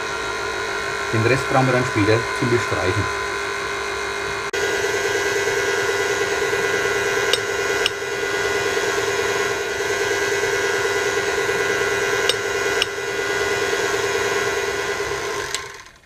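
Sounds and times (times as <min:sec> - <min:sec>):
stand mixer humming: 0:00.0 - 0:16.0.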